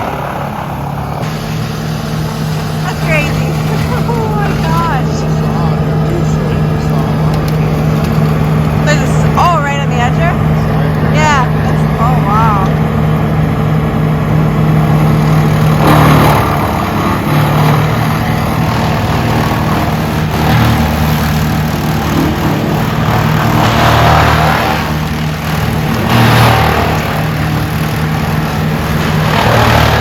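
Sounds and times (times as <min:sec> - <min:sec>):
timber rushing through chipper: 0:00.0 - 0:30.0
wood chipper engine droning: 0:00.0 - 0:30.0.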